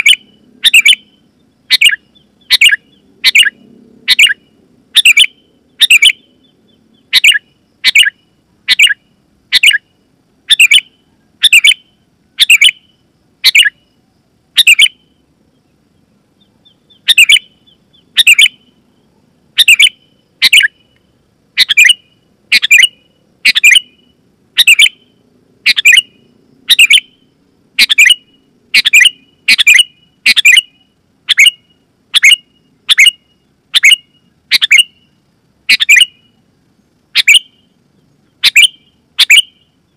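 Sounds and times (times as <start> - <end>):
bird calling sharp notes: 0.0 - 13.9, 14.6 - 15.2, 16.4 - 19.0, 19.6 - 21.0, 21.6 - 36.4, 37.1 - 37.8, 38.4 - 39.8.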